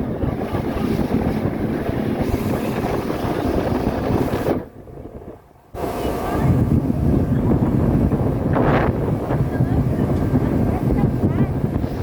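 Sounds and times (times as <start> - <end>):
motorboat engine running: 0.0 - 12.0
wind rushing over microphone: 0.0 - 12.0.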